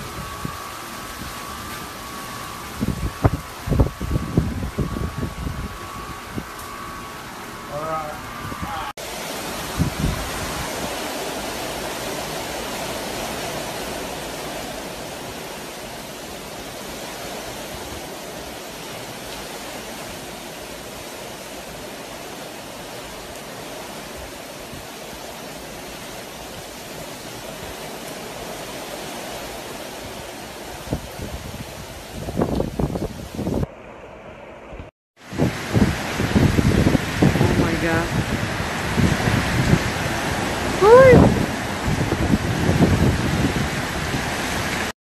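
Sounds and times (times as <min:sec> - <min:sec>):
storm wind and heavy rain: 0:00.0 - 0:45.0.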